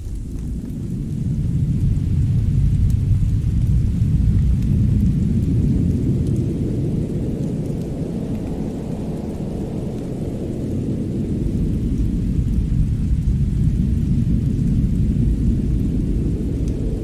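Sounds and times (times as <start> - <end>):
deep fireside rumbling: 0.0 - 17.0
faint fire crackles: 0.0 - 17.0.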